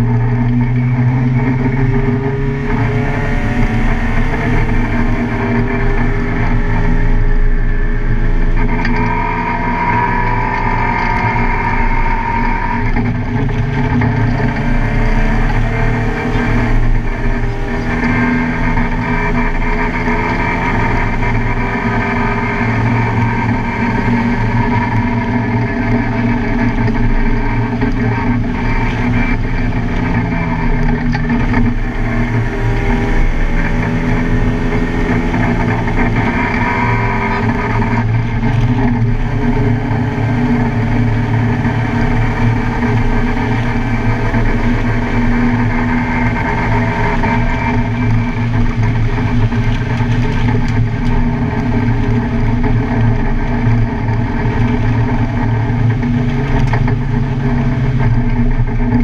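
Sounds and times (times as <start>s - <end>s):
car engine racing: 0.0s - 59.0s.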